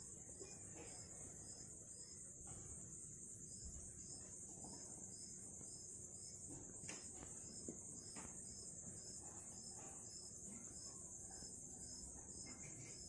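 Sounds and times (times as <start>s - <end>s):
crickets trilling: 0.0s - 13.0s
insect chirping: 0.0s - 13.0s.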